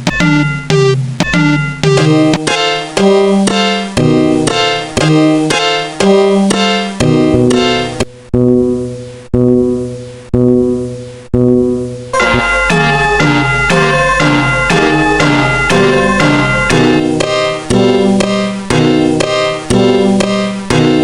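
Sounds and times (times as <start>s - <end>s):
piano-like keyboard chords: 0.0s - 8.1s, 12.1s - 21.0s.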